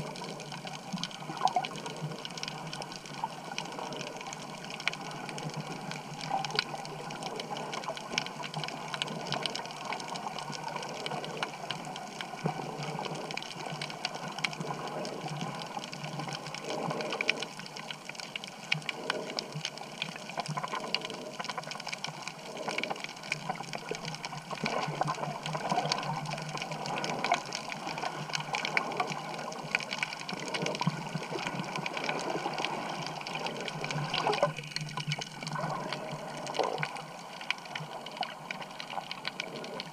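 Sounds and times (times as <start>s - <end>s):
crackle of sharp clicks: 0.0s - 39.9s
water rushing and bubbling: 0.0s - 39.9s.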